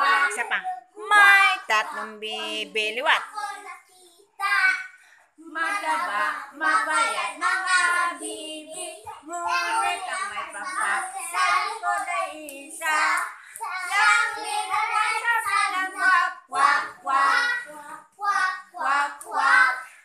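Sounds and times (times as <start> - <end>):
children singing: 0.0 - 0.5, 3.3 - 20.0.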